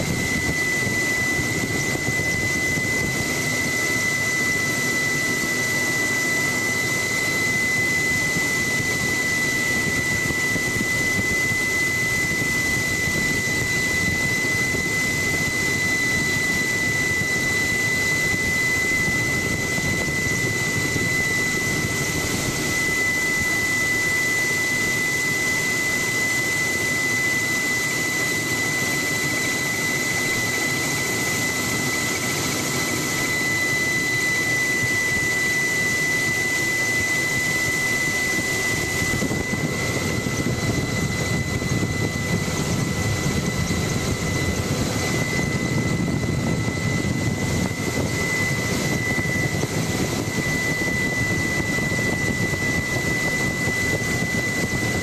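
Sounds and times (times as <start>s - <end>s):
helicopter engine and rotor rumble: 0.0s - 55.0s
high turbine whine: 0.0s - 55.0s.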